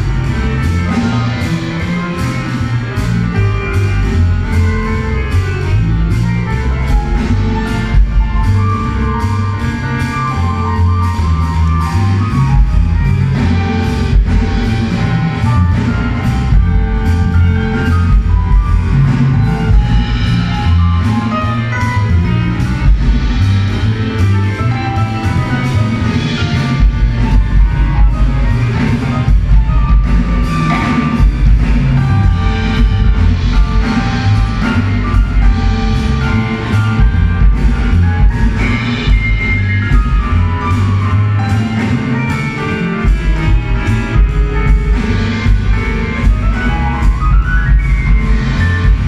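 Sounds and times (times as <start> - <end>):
drum kit steady beat: 0.0 - 49.0
live band music: 0.0 - 49.0.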